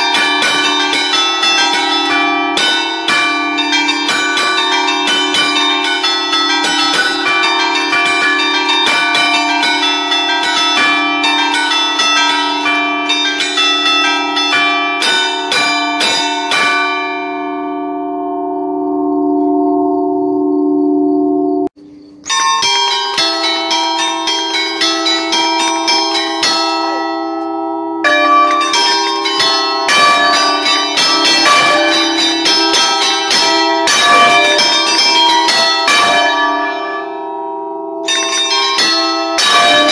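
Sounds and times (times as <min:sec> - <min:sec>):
church bells chimed by hand: 0:00.0 - 0:39.9.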